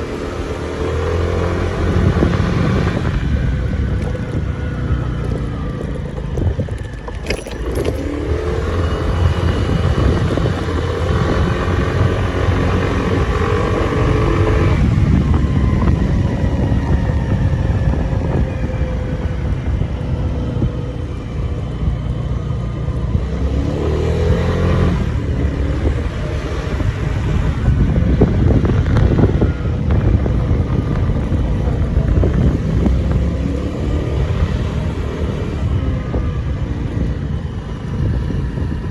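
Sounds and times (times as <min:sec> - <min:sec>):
moped engine running: 0:00.0 - 0:38.9.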